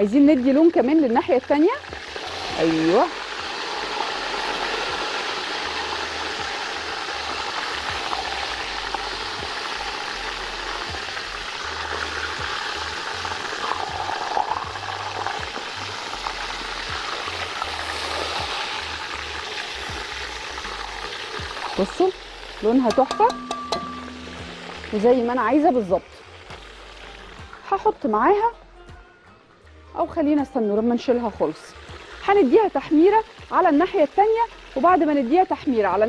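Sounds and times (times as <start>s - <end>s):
chicken sizzling in a pot: 0.0s - 28.1s, 31.0s - 36.0s.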